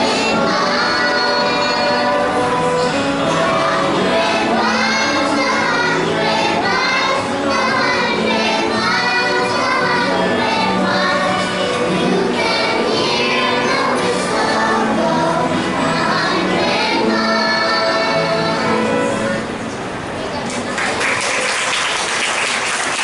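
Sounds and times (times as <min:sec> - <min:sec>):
children singing: 0:00.0 - 0:19.4.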